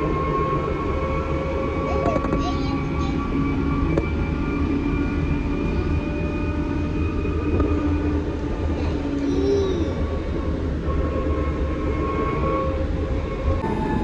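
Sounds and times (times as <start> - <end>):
vehicle engine rumble with whine: 0.0 - 14.0.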